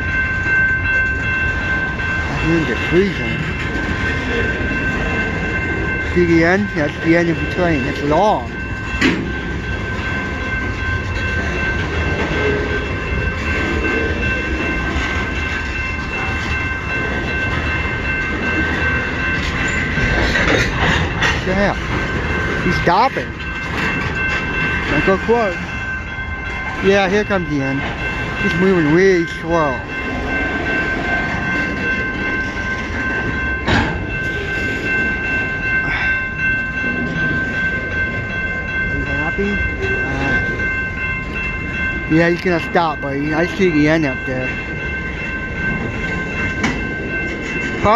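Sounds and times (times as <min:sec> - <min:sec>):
freight train cars rumbling: 0:00.0 - 0:47.9.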